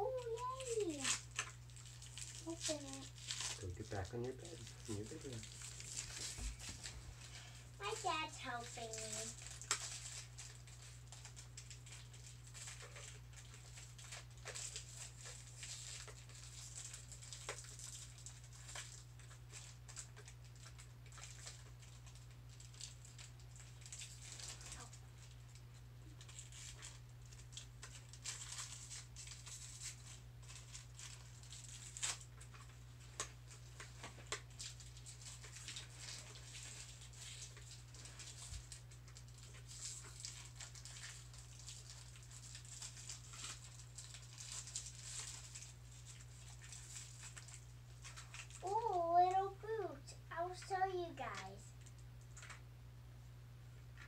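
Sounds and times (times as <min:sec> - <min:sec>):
plastic packaging crinkling: 0:00.0 - 0:52.6.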